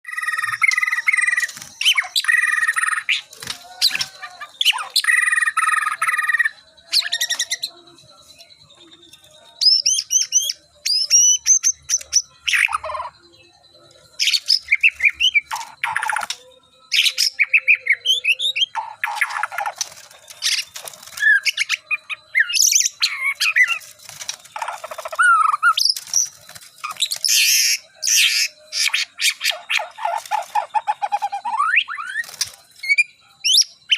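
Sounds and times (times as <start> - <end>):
songbird chirps and whistles: 0.0 - 33.9.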